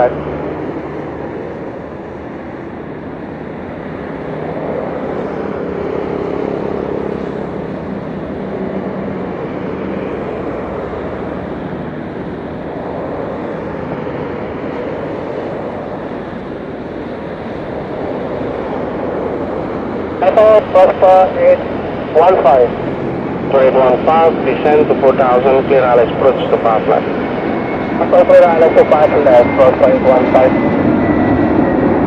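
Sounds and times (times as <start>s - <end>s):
jet engine noise with whine: 0.0s - 32.0s.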